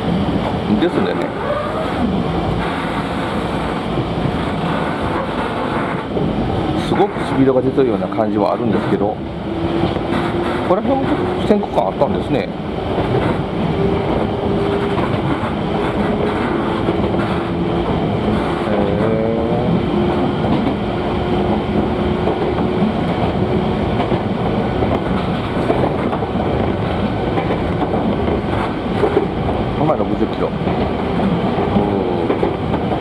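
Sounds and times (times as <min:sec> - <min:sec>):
clickety-clack of rail joints: 0:00.0 - 0:33.0
train wheels rumbling on rails: 0:00.0 - 0:33.0.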